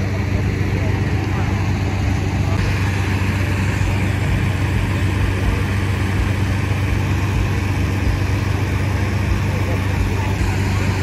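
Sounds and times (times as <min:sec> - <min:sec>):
inflator fan engine humming: 0:00.0 - 0:11.0.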